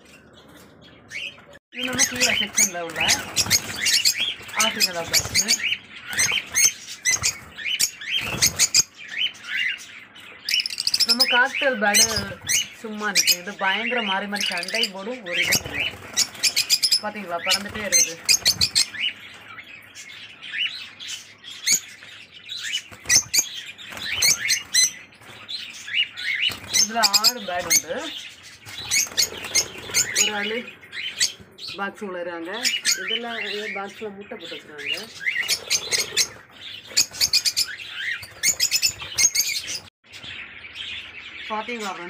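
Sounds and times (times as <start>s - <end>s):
lovebirds chattering: 0.0s - 42.0s
parrots chirping: 0.0s - 42.0s.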